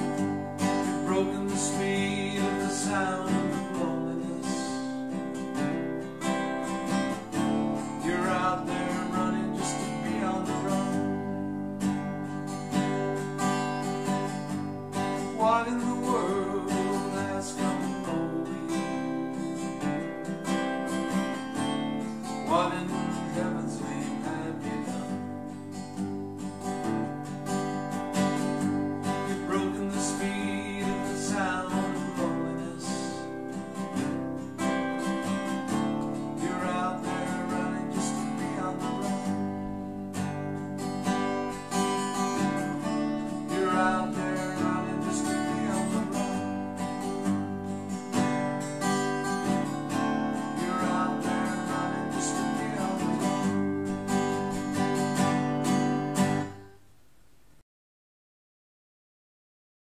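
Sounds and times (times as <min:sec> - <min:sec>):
acoustic guitar strumming: 0:00.0 - 0:57.1.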